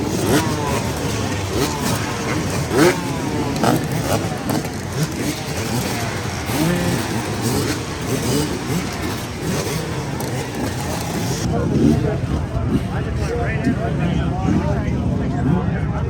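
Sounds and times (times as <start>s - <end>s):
motorcycle engines revving: 0.0s - 16.0s
voices: 0.0s - 16.0s.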